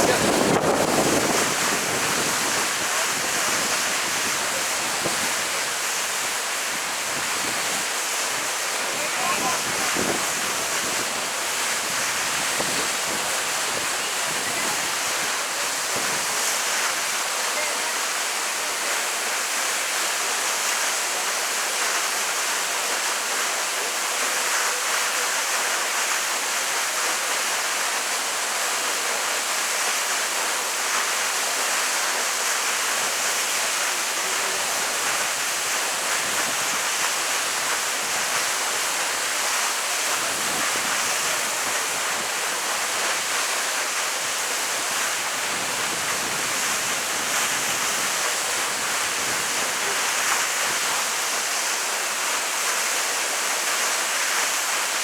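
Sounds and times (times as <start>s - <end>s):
waterfall splashing: 0.0s - 55.0s.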